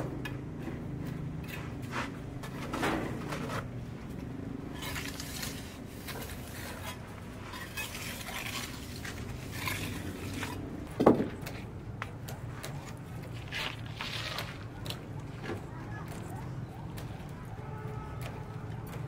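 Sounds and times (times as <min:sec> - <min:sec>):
scraping and light clatter: 0:00.0 - 0:19.0.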